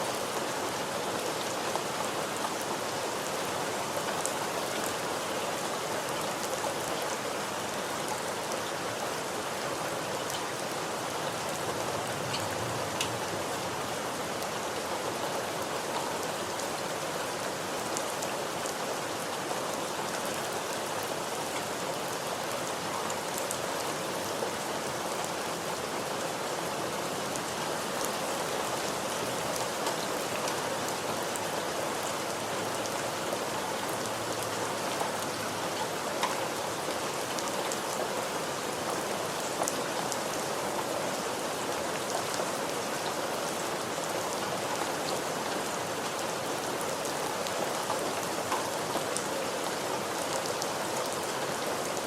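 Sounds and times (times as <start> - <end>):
dense rain hiss: 0.0 - 52.0.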